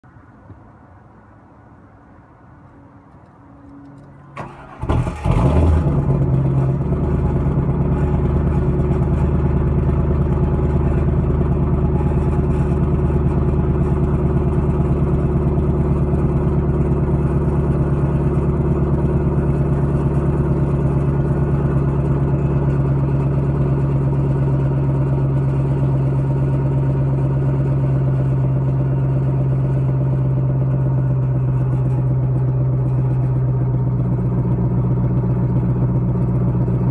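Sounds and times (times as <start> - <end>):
car engine cranking and starting: 3.9 - 36.9
car engine idling: 3.9 - 36.9
engine rev: 4.4 - 36.9
exhaust rattling: 4.4 - 36.9.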